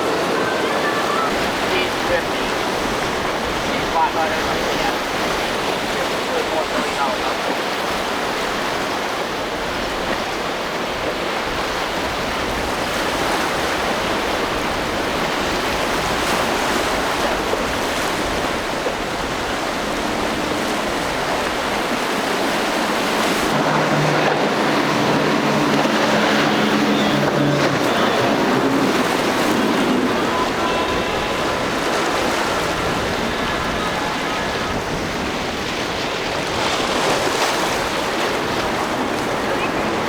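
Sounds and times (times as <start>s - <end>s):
boat engine hum: 0.0s - 40.0s
surf and breaking waves: 0.0s - 40.0s.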